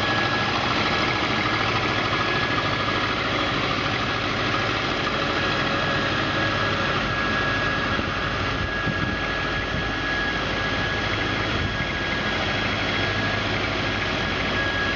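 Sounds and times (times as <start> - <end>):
road roller engine running: 0.0 - 14.9
thin high whine: 0.0 - 14.9.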